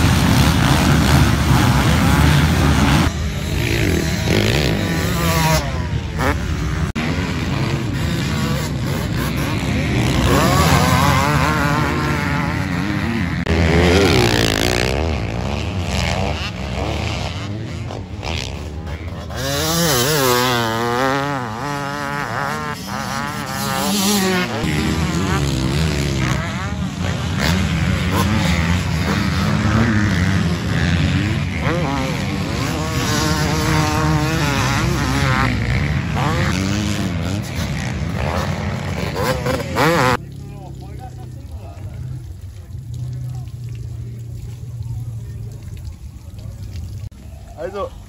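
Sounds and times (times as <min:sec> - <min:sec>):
dirt bike engines revving: 0:00.0 - 0:48.0.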